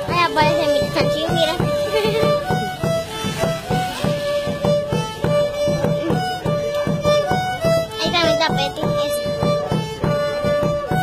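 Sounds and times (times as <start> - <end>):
drum steady beat: 0.0 - 11.0
solo violin march melody: 0.0 - 11.0.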